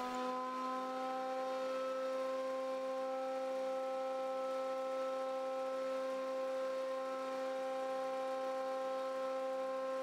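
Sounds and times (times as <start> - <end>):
jointer planer motor whining: 0.0 - 10.0.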